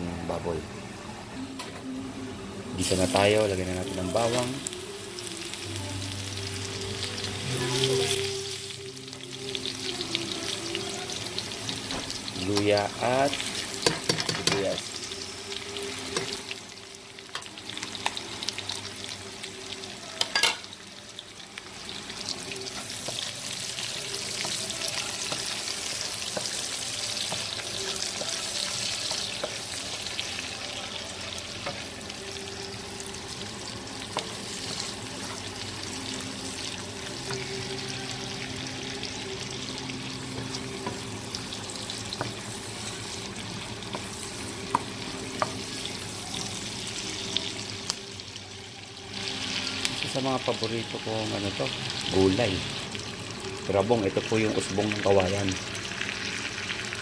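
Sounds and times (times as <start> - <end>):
aromatics sizzling in a wok: 0.0 - 57.0.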